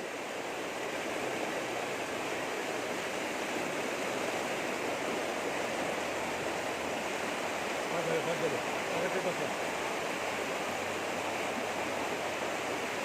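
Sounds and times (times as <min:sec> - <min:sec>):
heavy rain on flooded road: 0:00.3 - 0:13.0.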